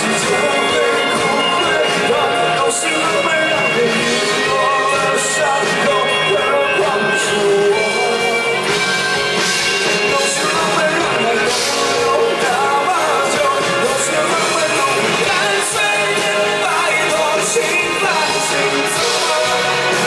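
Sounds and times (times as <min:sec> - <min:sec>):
drums and cymbals: 0:00.0 - 0:20.0
guitars: 0:00.0 - 0:20.0
lead singer vocals: 0:00.0 - 0:20.0.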